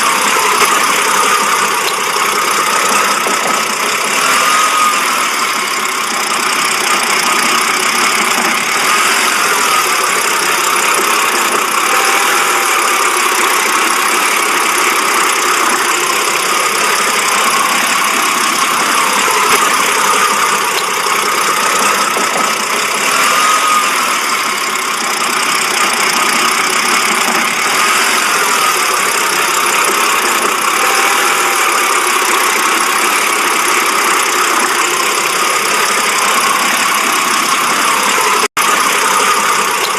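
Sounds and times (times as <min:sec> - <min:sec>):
car engine idling roughly: 0:00.0 - 0:39.9.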